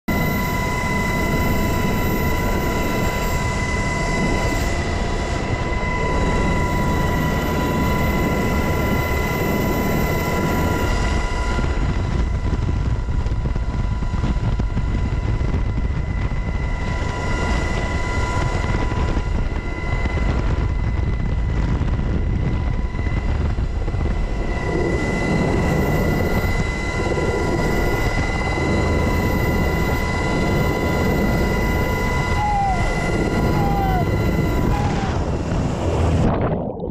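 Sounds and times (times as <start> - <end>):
helicopter rotor and engine noise: 0.0 - 36.4
high constant whine: 0.1 - 36.9.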